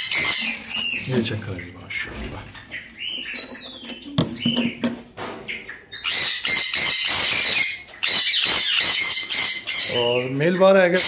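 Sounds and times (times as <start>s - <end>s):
parrots screeching: 0.0s - 1.2s, 2.6s - 4.8s, 5.5s - 11.0s.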